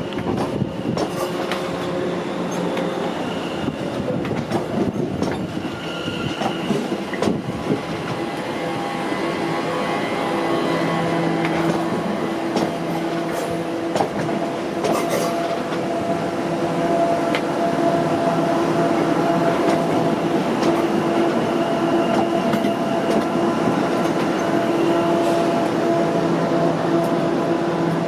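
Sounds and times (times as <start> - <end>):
train hum: 0.0 - 28.0.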